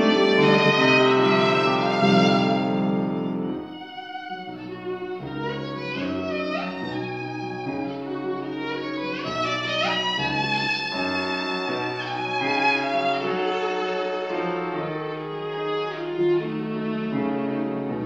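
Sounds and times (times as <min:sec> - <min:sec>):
piano accompaniment: 0:00.0 - 0:18.0
viola playing classical piece: 0:00.0 - 0:18.0.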